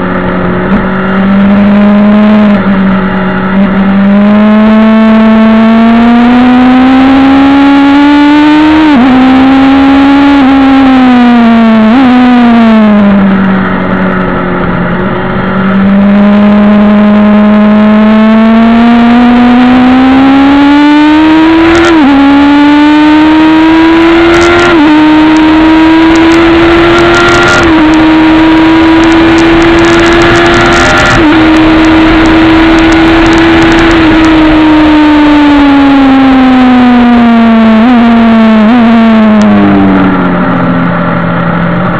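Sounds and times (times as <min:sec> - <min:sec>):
motorcycle engine at full throttle: 0:00.0 - 0:41.9.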